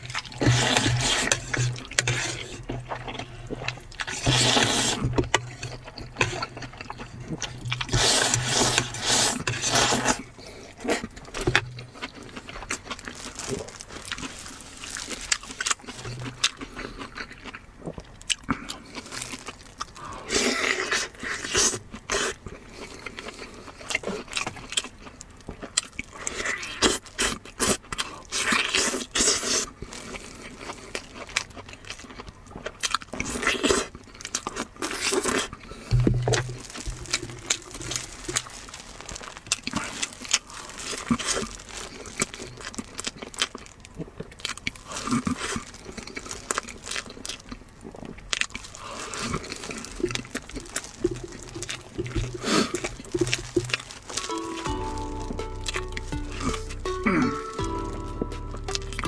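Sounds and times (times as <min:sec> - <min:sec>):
biting and chewing ribs: 0:00.0 - 0:59.0.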